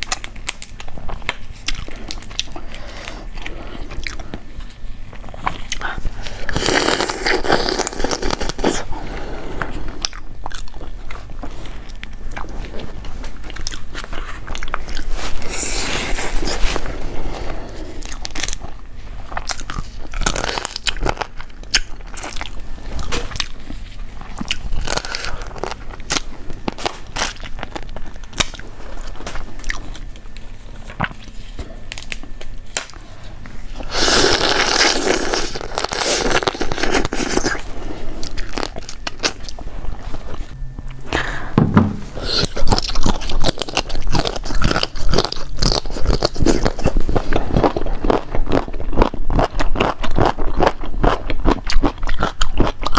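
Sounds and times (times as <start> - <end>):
person crunching and chewing food: 0.0 - 33.0, 33.7 - 41.4, 42.0 - 52.9.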